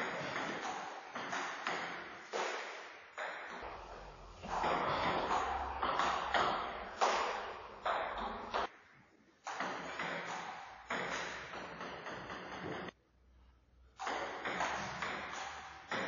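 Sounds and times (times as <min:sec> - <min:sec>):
table tennis ball hits: 0:00.0 - 0:08.7, 0:09.4 - 0:13.0, 0:14.0 - 0:16.0.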